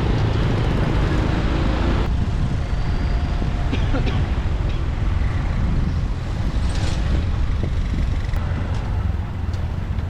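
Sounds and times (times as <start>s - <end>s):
traffic engines and road noise: 0.0s - 10.0s.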